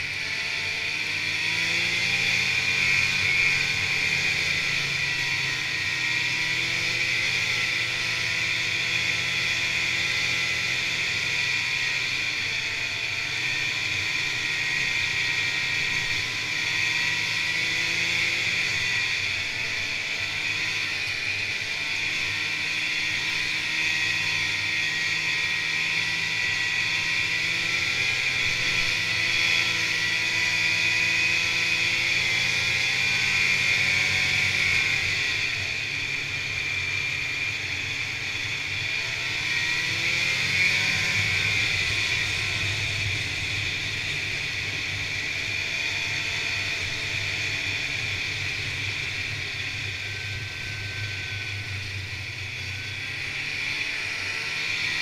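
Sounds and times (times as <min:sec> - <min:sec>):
snowmobile engine running: 0:00.0 - 0:55.0
steady high whine: 0:00.0 - 0:55.0.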